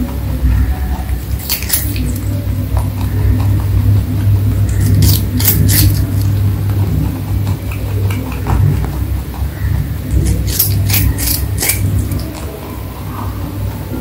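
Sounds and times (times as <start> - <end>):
low hum: 0.0 - 14.0
rabbit crunching fruit: 0.0 - 14.0.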